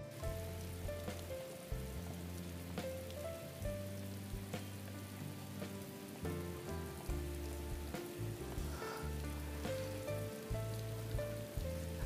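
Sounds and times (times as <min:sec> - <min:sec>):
rain on pavement: 0:00.0 - 0:12.0
soft background music: 0:00.0 - 0:12.0.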